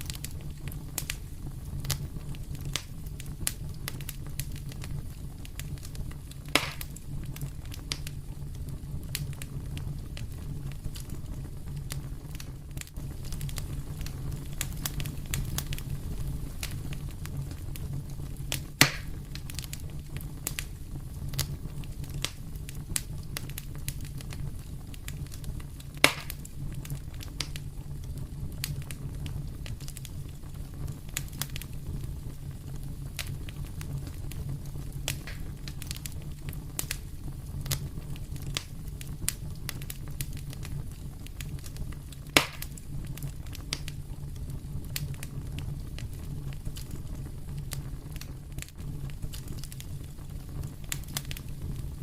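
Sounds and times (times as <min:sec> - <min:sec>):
loud fire pops: 0:00.0 - 0:52.0
wood fire crackling: 0:00.0 - 0:52.0.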